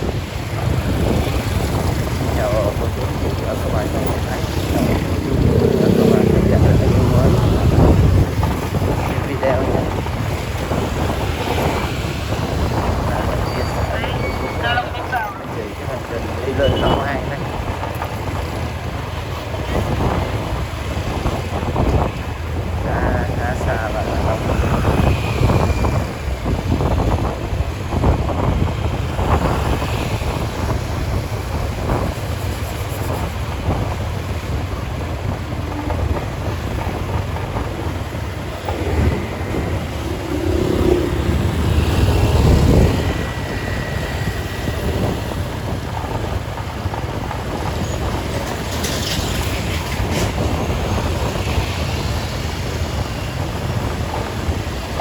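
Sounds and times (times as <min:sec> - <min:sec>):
vehicle and road noise: 0:00.0 - 0:55.0
wind rumbling on microphone: 0:00.0 - 0:55.0.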